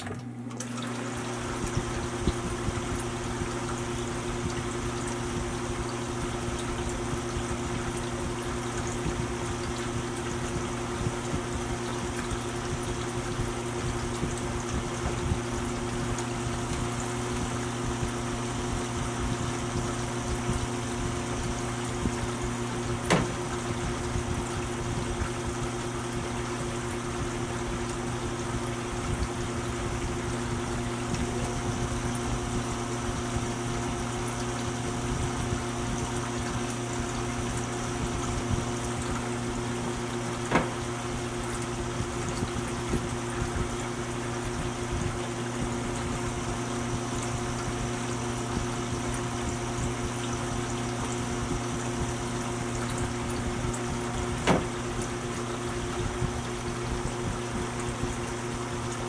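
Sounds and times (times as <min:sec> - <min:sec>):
exhaust fan humming: 0:00.0 - 0:59.0.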